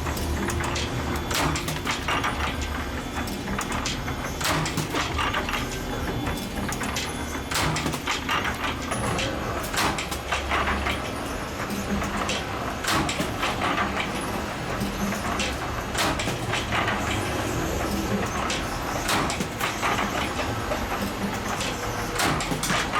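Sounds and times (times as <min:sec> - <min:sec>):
spring-making machine humming: 0:00.0 - 0:22.9
machine clicks and knocks: 0:00.1 - 0:22.9.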